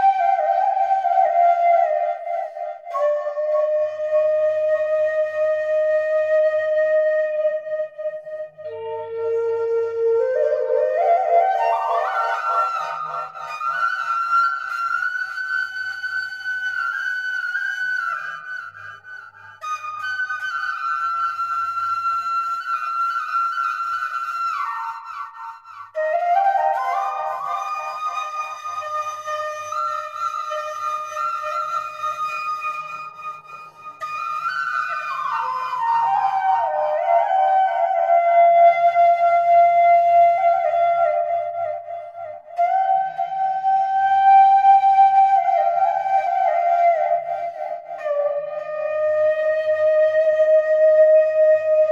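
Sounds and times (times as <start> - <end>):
flute playing slow melody: 0.0 - 51.9.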